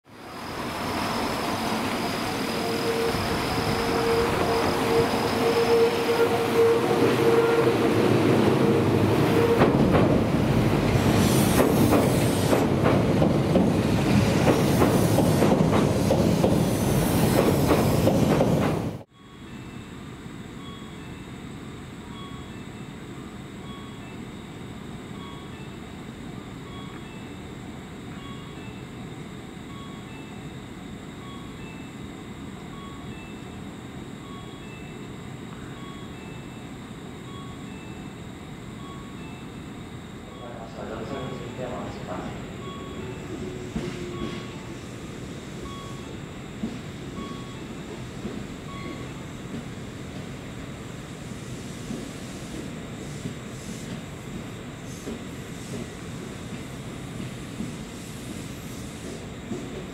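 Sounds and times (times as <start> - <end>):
electric train rumble: 0.1 - 59.9.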